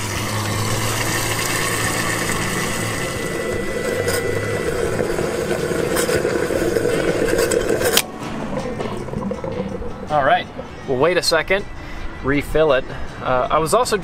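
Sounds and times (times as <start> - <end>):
fuel rushing into tank: 0.0 - 11.4
fuel pump humming: 0.0 - 12.2.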